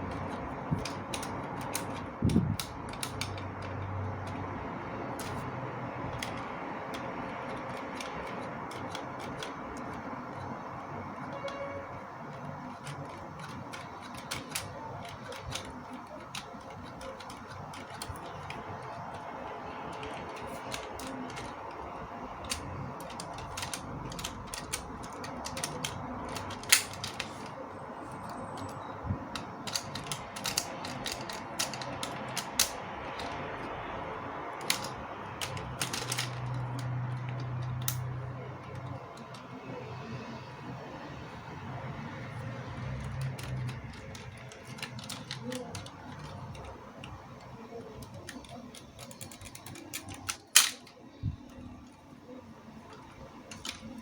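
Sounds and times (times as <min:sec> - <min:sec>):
plastic parts clicking and ratcheting: 0:00.0 - 0:39.8, 0:41.8 - 0:52.0, 0:52.8 - 0:54.0.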